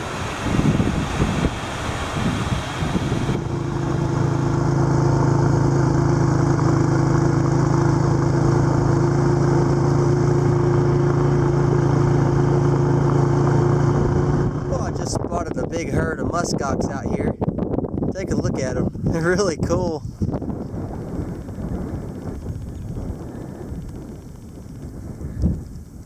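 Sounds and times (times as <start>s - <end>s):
small engine running steadily: 0.0s - 26.0s.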